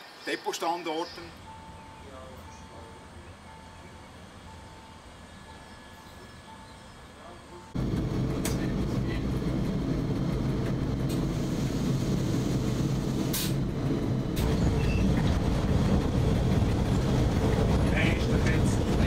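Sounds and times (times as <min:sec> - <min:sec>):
railcar electrical hum and rumble: 0:00.0 - 0:19.0.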